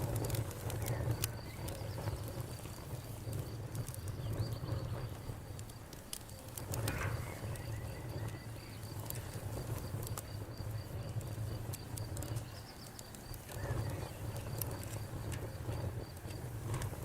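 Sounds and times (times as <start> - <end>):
campfire crackling: 0.0 - 17.0
cricket chirping: 0.1 - 16.9.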